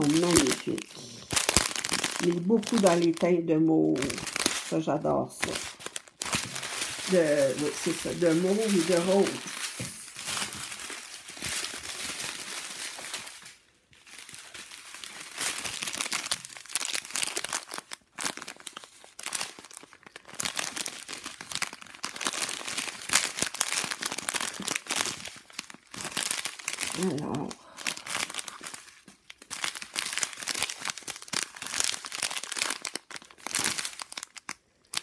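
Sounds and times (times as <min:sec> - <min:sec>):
plastic bags crinkling: 0:00.0 - 0:35.0.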